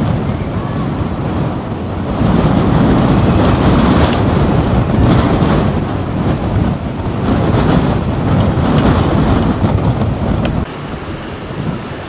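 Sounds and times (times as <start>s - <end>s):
gusty wind through trees: 0.0s - 12.0s
wind buffeting microphone: 0.0s - 12.0s.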